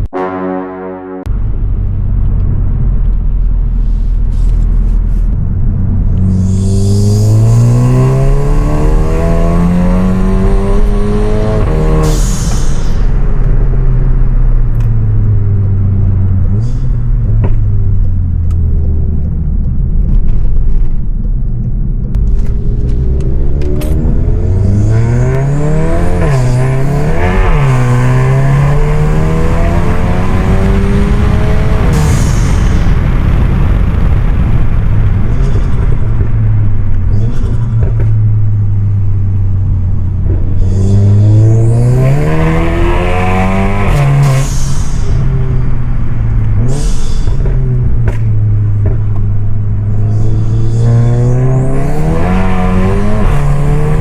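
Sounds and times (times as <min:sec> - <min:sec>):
car engine accelerating hard: 0:04.3 - 0:21.2, 0:21.8 - 0:54.0.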